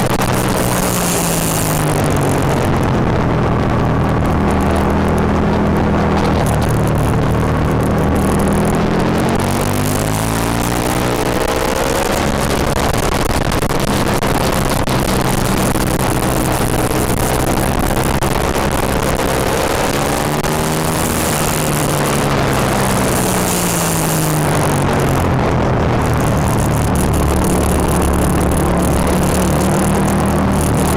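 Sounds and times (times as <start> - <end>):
motorcycle engine revving: 0.0 - 30.9
rush of noise: 0.0 - 30.9.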